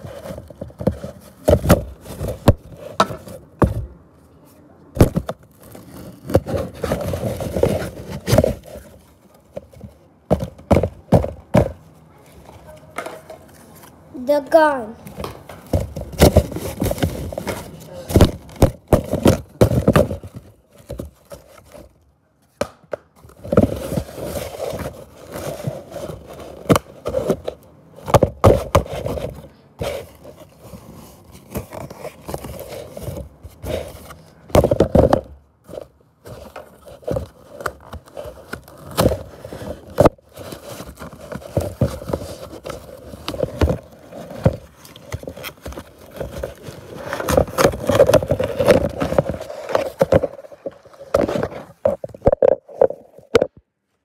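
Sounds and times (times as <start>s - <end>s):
cardboard scraping and rustling: 0.0s - 4.1s, 4.9s - 22.0s, 23.2s - 53.6s.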